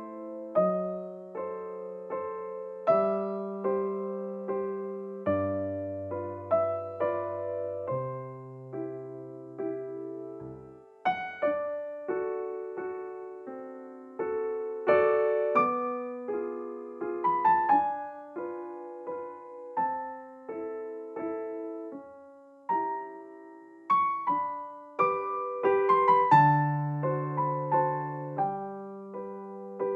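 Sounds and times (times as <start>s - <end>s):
gentle piano melody: 0.0s - 29.9s.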